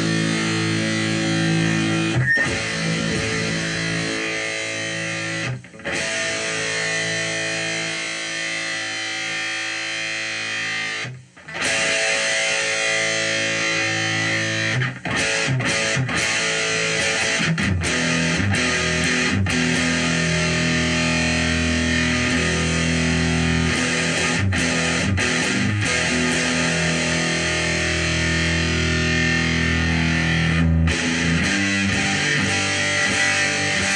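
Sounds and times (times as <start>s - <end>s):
distorted electric guitar chords: 0.0s - 33.9s.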